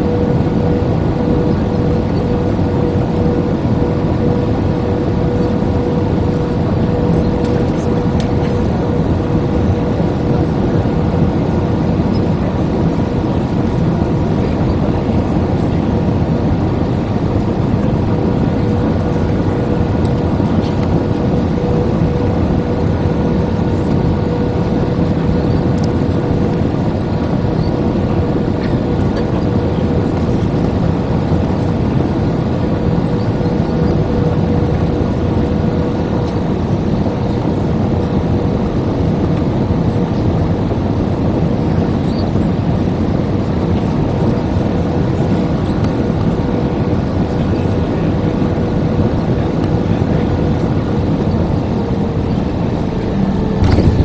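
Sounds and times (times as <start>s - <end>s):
airplane cabin roar: 0.0s - 54.0s
steady hum tone: 0.0s - 54.0s.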